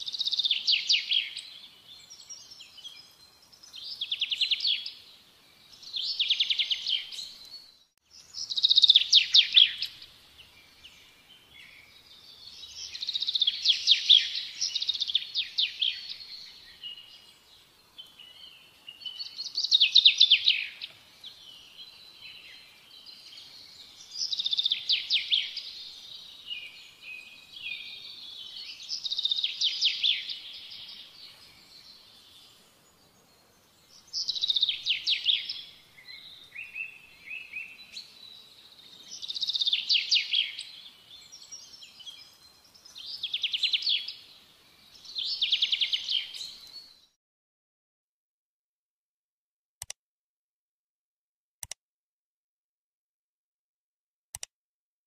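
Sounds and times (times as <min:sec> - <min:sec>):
bird chirping: 0:00.0 - 0:47.2.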